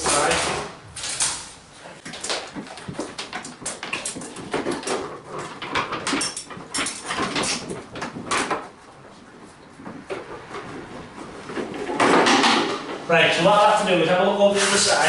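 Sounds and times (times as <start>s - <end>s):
rods scraping and rattling under floor: 0.0s - 15.0s.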